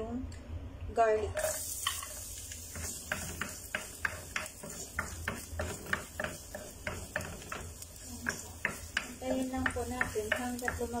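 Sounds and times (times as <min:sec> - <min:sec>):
faint oil sizzle: 0:01.2 - 0:11.0
utensil clicking in frying pan: 0:01.4 - 0:11.0.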